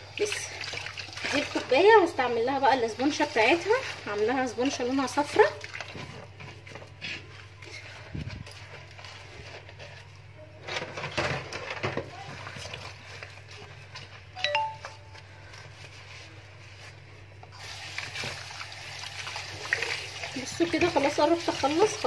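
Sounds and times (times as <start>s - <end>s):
sponge scrubbing and splashing: 0.2s - 10.2s, 12.2s - 14.3s, 15.7s - 22.0s.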